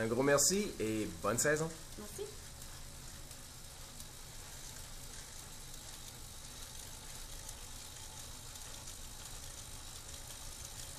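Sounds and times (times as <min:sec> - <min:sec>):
bike tyre whirring on trainer roller: 0:00.0 - 0:10.9.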